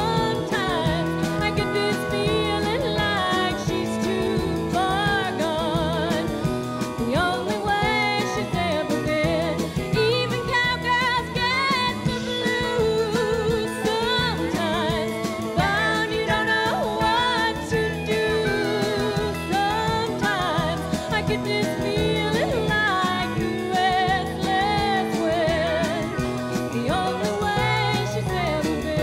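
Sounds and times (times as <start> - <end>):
country band playing: 0.0 - 29.0
woman singing: 0.0 - 29.0.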